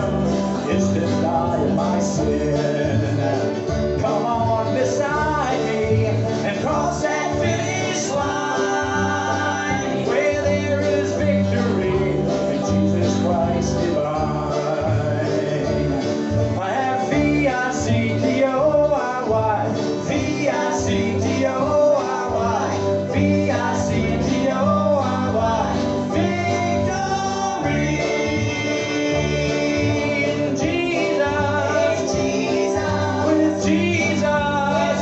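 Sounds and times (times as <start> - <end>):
group singing gospel: 0.0 - 35.0
guitar accompaniment: 0.0 - 35.0.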